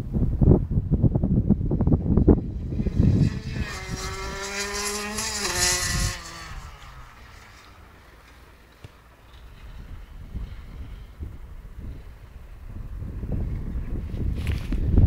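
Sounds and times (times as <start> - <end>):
wind buffeting microphone: 0.0 - 8.0, 9.3 - 15.0
motorbike passing at speed: 1.1 - 15.0.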